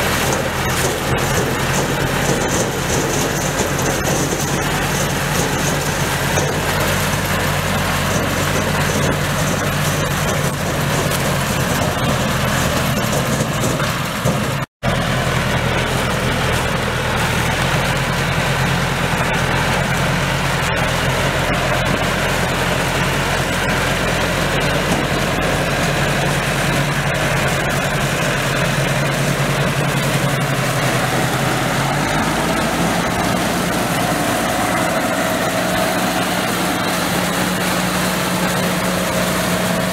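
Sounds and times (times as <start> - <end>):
mechanical clatter of corn picker: 0.0 - 39.9
tractor engine running: 0.0 - 39.9.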